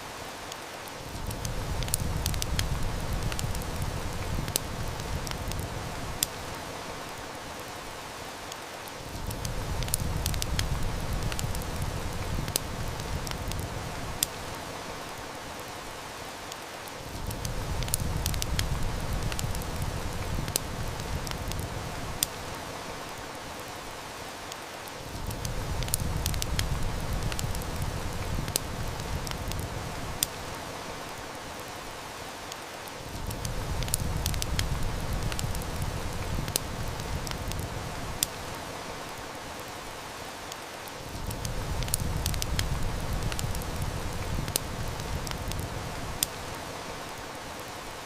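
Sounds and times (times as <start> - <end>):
heavy rain hiss: 0.0 - 48.0
wood fire crackling: 0.0 - 48.0.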